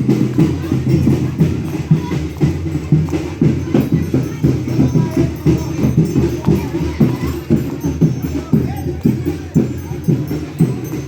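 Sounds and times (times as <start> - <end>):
folk music ensemble: 0.0 - 11.0
percussion beat: 0.0 - 11.0
tambourine jingles: 0.0 - 11.0.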